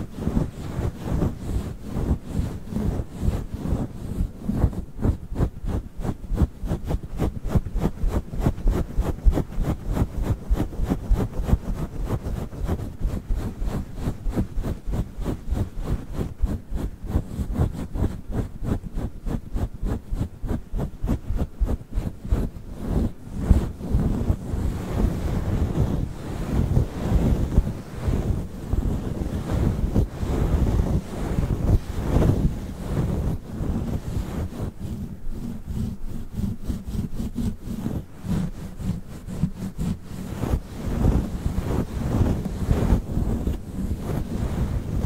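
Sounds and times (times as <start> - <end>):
furry microphone cover rubbing: 0.0 - 45.0.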